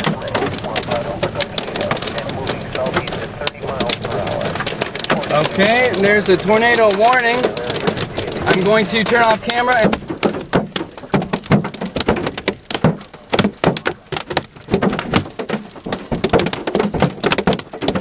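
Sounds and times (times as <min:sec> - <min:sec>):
hailstones striking a car: 0:00.0 - 0:18.0.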